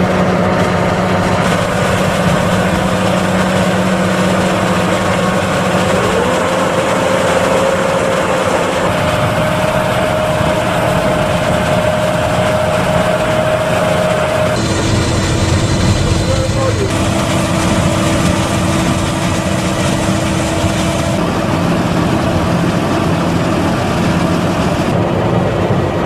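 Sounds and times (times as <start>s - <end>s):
machine din: 0.0s - 21.6s
whining tone: 0.0s - 26.0s.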